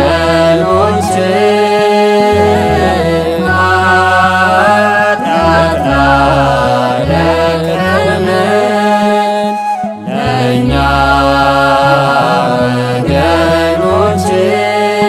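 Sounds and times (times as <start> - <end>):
men's choir chanting a hymn: 0.0 - 15.0.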